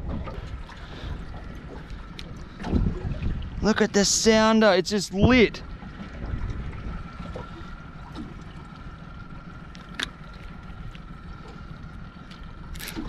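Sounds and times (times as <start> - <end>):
water lapping around boat: 0.0 - 13.0
wind: 0.0 - 13.0.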